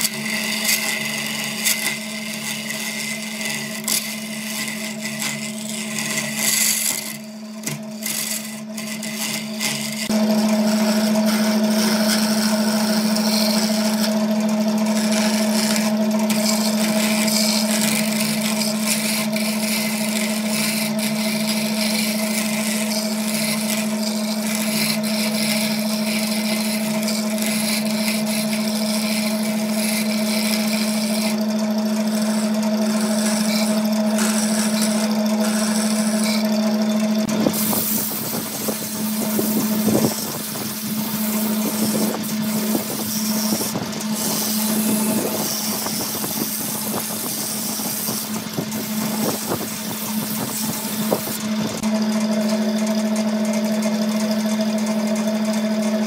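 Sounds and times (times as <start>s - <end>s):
tool scraping spinning wood: 0.0s - 56.0s
wood lathe motor hum: 0.0s - 56.0s.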